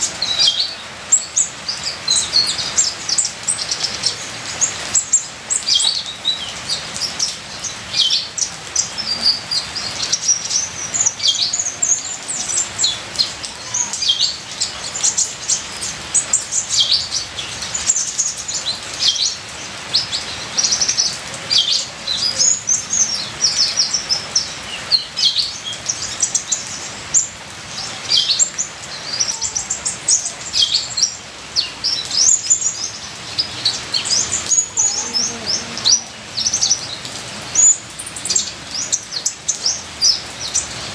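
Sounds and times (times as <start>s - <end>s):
sunbird singing high chirps: 0.0s - 40.9s
trickling water: 0.0s - 40.9s.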